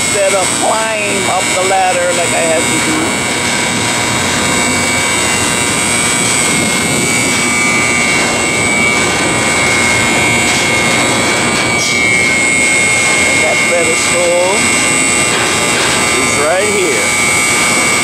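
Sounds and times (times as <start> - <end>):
high-pitched whine: 0.0 - 18.0
machinery drone: 0.0 - 18.0.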